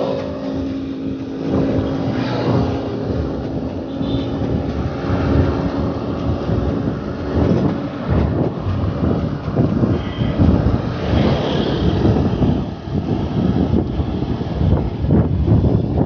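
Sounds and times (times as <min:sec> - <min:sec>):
road traffic engine drone: 0:00.0 - 0:16.0
wind rumble on microphone: 0:00.0 - 0:16.0.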